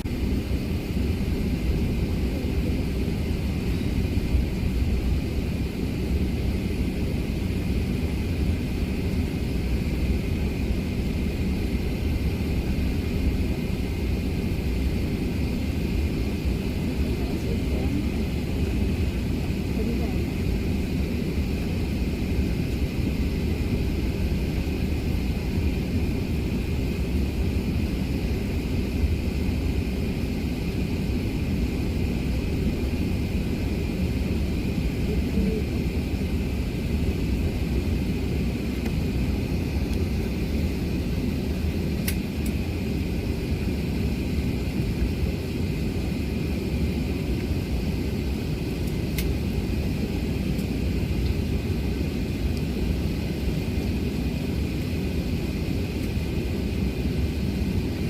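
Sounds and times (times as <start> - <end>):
aircraft cabin low rumble: 0.0 - 58.0
steady high hum: 0.0 - 58.0.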